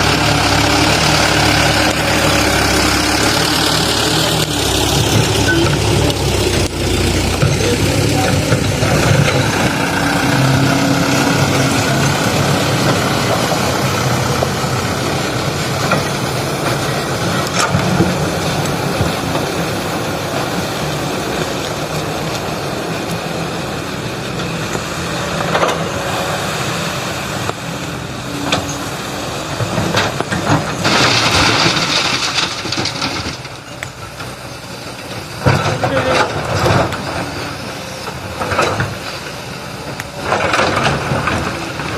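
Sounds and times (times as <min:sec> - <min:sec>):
diesel machinery running: 0:00.0 - 0:41.9.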